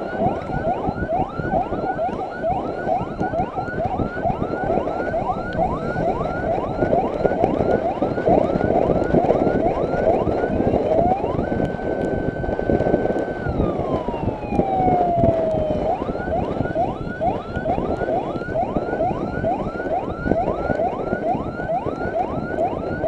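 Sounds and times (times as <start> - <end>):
electronic siren yelp and wail: 0.0 - 23.0.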